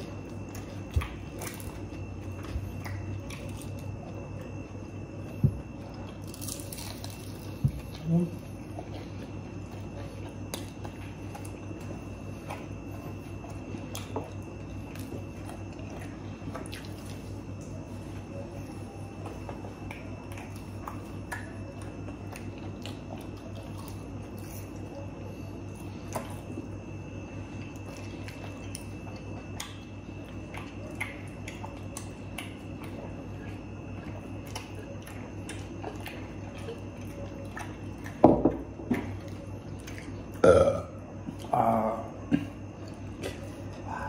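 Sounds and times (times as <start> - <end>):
quiet chewing: 0.0 - 44.0
steady background hum: 0.0 - 44.0.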